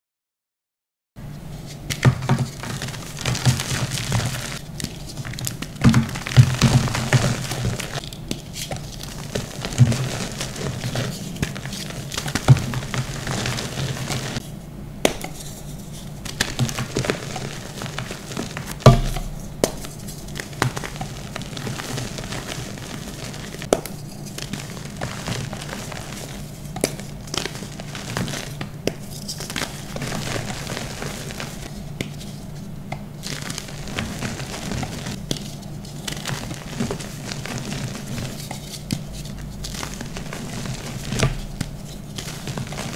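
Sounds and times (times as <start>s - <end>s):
chalk crackling and crunching: 1.6s - 14.5s, 15.2s - 42.9s.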